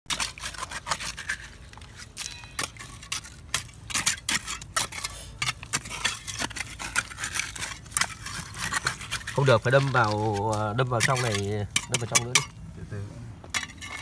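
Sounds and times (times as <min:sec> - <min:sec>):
hands digging wet soil and gravel: 0:00.1 - 0:14.0.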